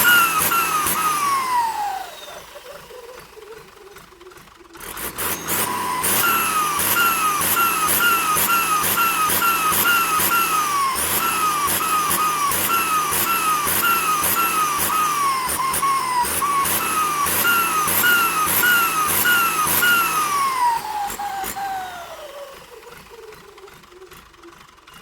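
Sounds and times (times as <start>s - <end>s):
turbocharger whistling in pulses: 0.0s - 3.6s, 4.8s - 25.0s
diesel engine revving: 0.0s - 25.0s.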